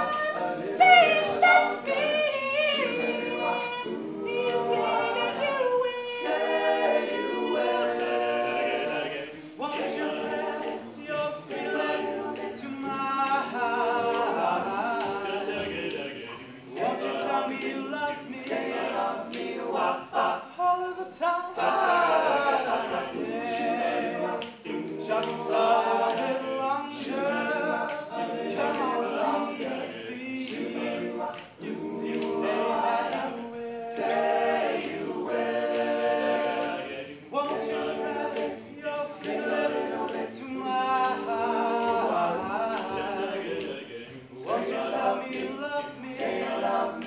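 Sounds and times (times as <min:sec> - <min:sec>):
male a cappella group singing: 0:00.0 - 0:47.0.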